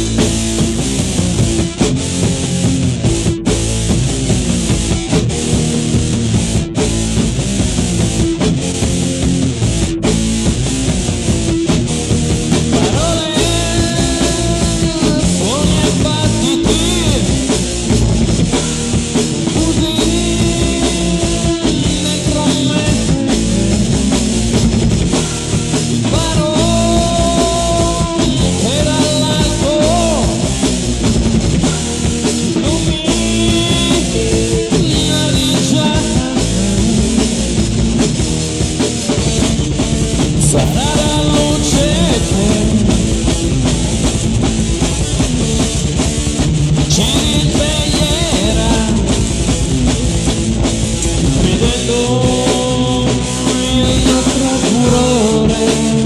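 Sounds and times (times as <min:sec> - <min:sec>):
heavy metal song: 0:00.0 - 0:56.0.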